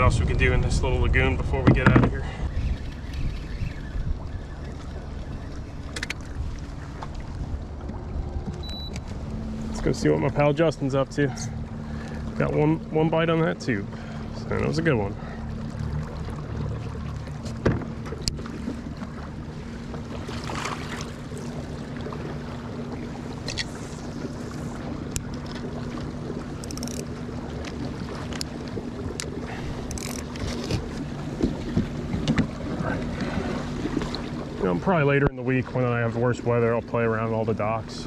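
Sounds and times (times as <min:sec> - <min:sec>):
kayak drive humming: 0:00.0 - 0:38.0
water washing along hull: 0:00.0 - 0:38.0.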